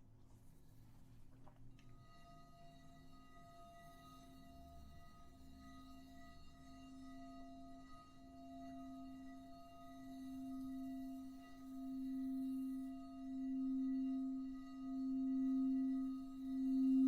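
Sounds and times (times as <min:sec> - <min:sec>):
singing bowl low tone: 0:01.8 - 0:17.0.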